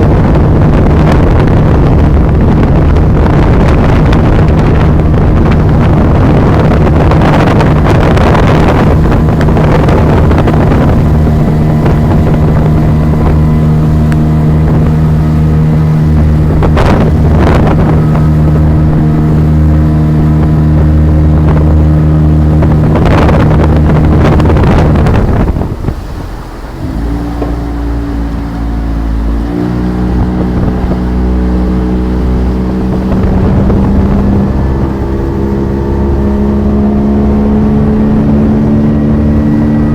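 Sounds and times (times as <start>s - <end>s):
motorboat engine running: 0.0s - 39.9s
rushes of wind and spray: 0.0s - 39.9s.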